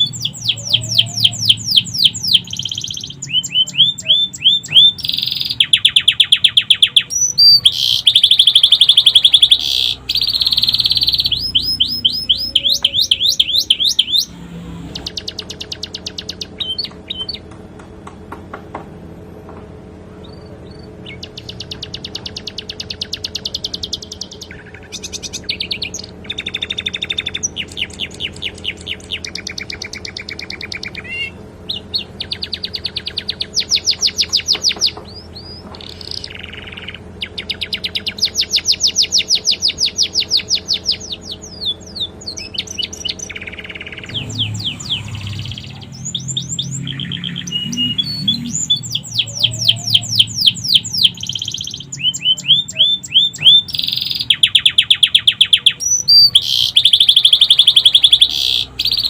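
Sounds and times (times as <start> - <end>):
canary singing trills: 0.0 - 17.6, 20.2 - 59.0.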